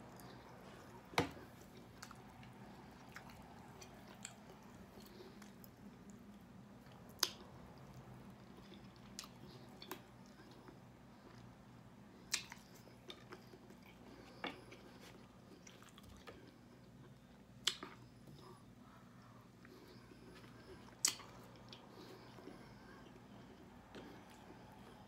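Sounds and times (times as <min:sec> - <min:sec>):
faint low hum: 0:00.0 - 0:25.0
person chewing: 0:00.0 - 0:25.0.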